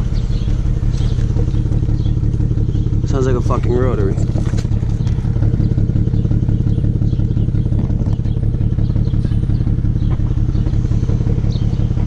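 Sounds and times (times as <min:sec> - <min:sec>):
car engine idling rough: 0:00.0 - 0:12.0.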